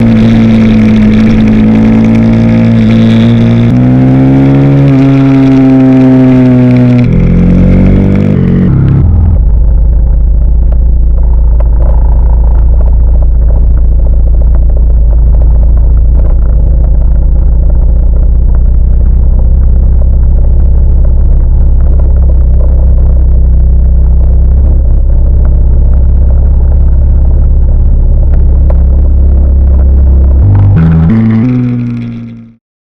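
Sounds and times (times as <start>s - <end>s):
motorcycle engine running: 0.0s - 32.6s.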